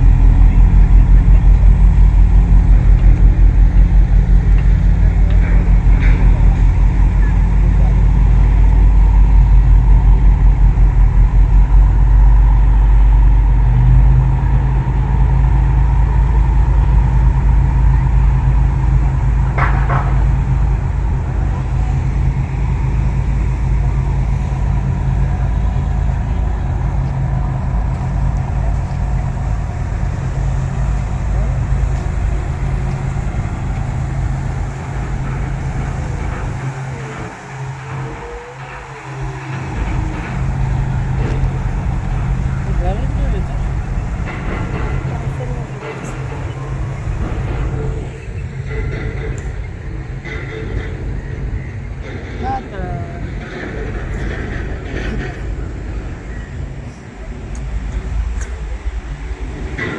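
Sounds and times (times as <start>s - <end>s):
heavy engine rumbling: 0.0s - 59.9s.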